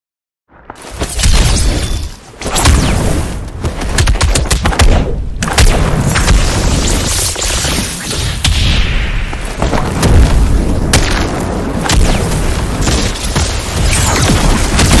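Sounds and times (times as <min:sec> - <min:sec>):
fight hits and booms: 0:01.0 - 0:07.2, 0:08.1 - 0:15.0.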